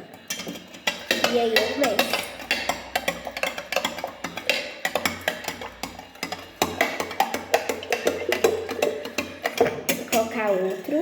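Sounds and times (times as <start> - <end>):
spoon clinking against jug: 0.0 - 11.0.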